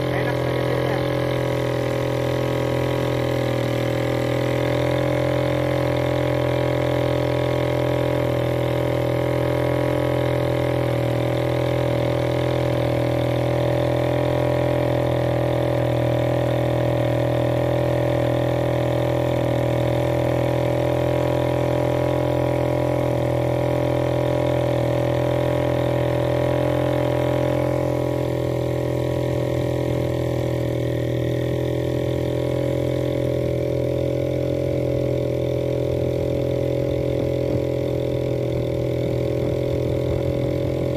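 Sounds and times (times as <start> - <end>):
small boat engine droning: 0.0 - 40.9.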